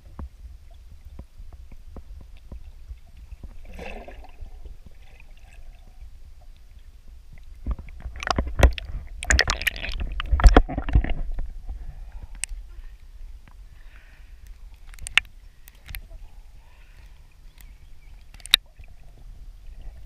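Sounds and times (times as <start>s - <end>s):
muffled underwater rumble: 0.0s - 20.0s
small ticks underwater: 0.0s - 20.0s
water splashing and crackling: 0.0s - 20.0s.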